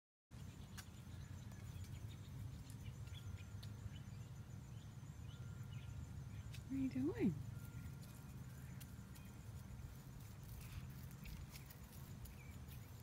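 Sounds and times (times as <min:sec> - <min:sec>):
faint bird chirps: 0:00.4 - 0:13.0.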